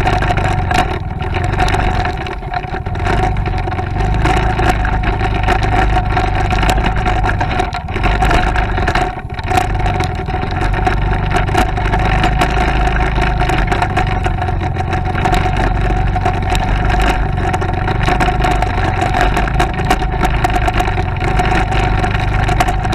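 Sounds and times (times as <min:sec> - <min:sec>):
motorcycle engine running: 0:00.0 - 0:22.9
wind rumble on microphone: 0:00.0 - 0:22.9.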